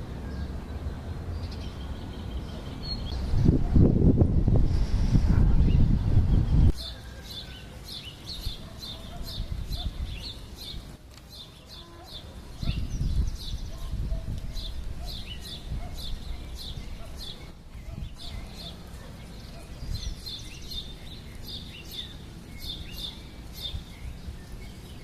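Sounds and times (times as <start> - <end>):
wind rumbling on microphone: 1.0 - 6.9, 8.2 - 11.0, 12.3 - 25.0.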